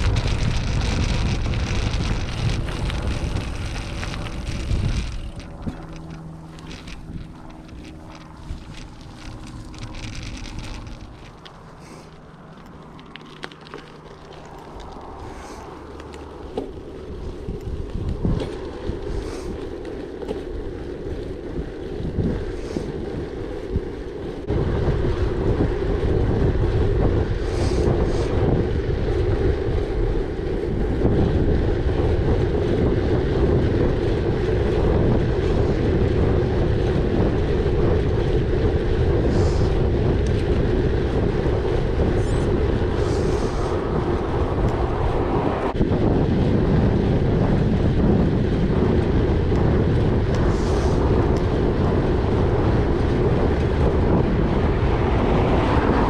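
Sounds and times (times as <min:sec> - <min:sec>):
bike tyres rolling on gravel: 0:00.0 - 0:56.0
wind buffeting microphone: 0:00.0 - 0:56.0.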